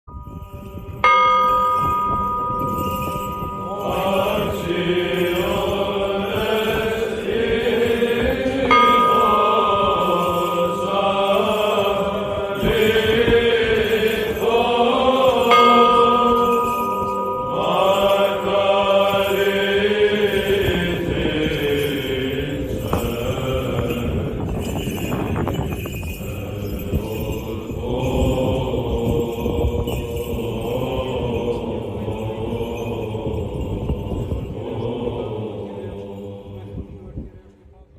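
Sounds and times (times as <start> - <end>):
church bell ringing: 0.0 - 36.9
chanting voices: 0.1 - 37.9.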